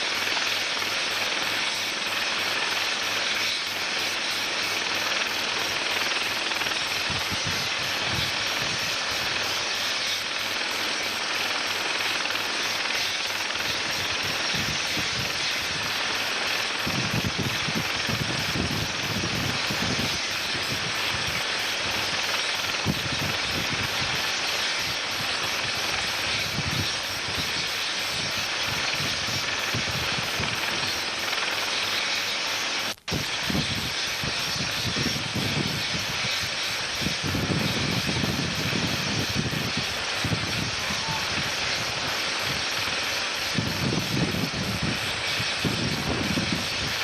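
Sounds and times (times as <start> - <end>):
helicopter engine and rotor: 0.0 - 47.0.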